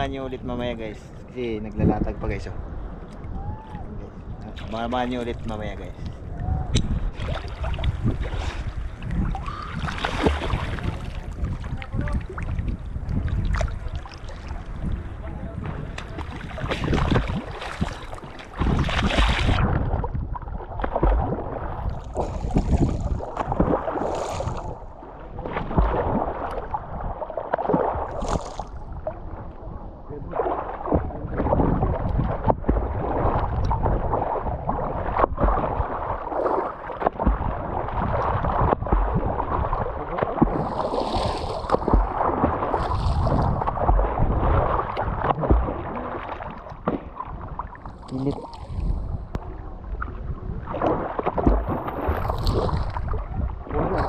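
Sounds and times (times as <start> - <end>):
sea water splashing: 0.0 - 54.0
wind buffeting microphone: 0.0 - 54.0.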